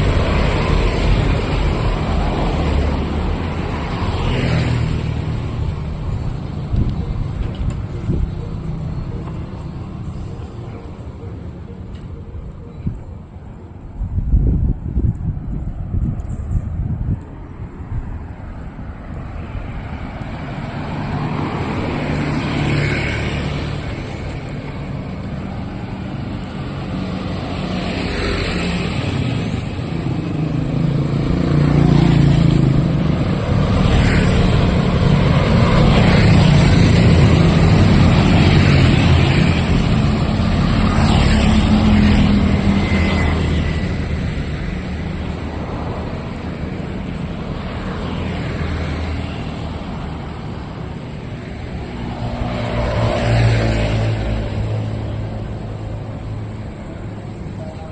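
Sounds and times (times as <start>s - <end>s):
vehicles passing by: 0.0s - 57.9s.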